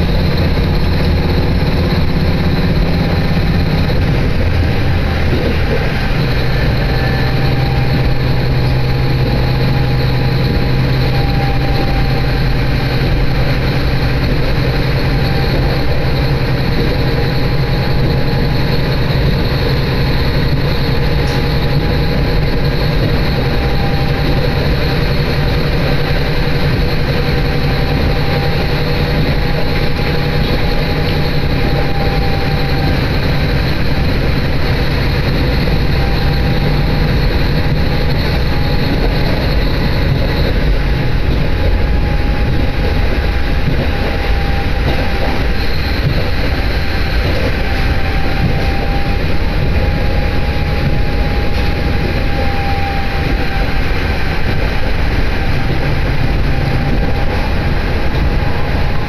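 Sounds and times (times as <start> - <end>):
steady whine: 0.0 - 59.0
train rumbling on board: 0.0 - 59.0.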